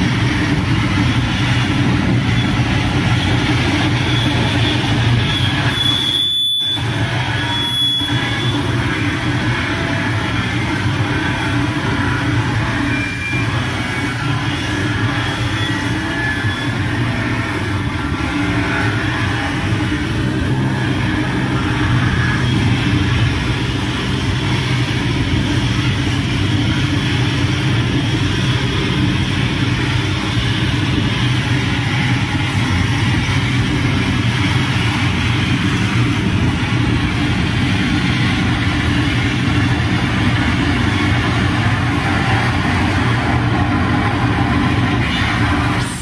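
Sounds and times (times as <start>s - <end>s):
distorted electronic static: 0.0s - 46.0s
heavy low hum: 0.0s - 46.0s.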